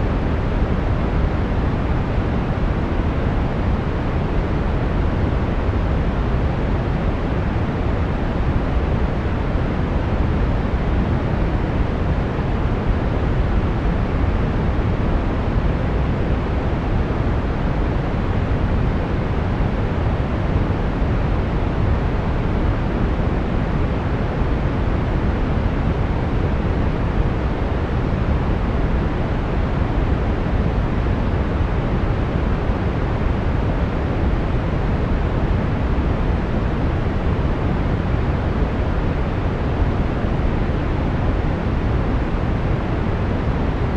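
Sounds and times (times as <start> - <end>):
brown noise: 0.0 - 43.9.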